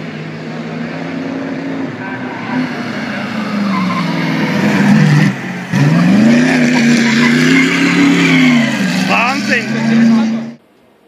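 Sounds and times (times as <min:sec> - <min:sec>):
racing car engine accelerating: 0:00.0 - 0:10.6.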